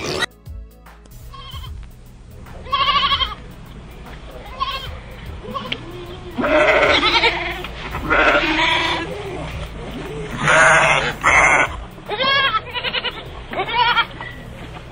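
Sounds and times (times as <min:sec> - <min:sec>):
sheep bleating: 0:00.0 - 0:00.3, 0:01.2 - 0:01.8, 0:02.6 - 0:03.5, 0:04.3 - 0:14.5.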